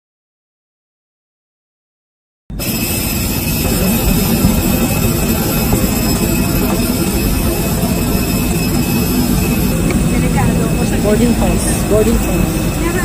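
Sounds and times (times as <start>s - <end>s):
high engine whine: 2.5s - 13.0s
jet engines rushing: 2.5s - 13.0s.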